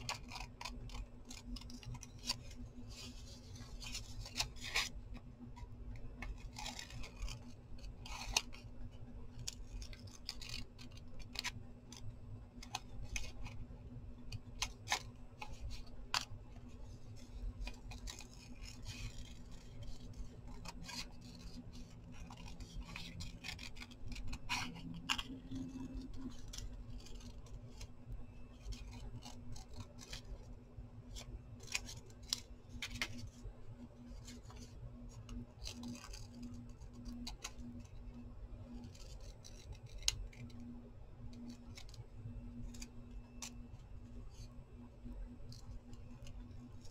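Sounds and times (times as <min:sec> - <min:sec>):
scissors snipping paper: 0:00.0 - 0:13.6, 0:14.2 - 0:27.9, 0:28.5 - 0:30.5, 0:31.1 - 0:33.4, 0:34.0 - 0:38.0, 0:38.6 - 0:44.5.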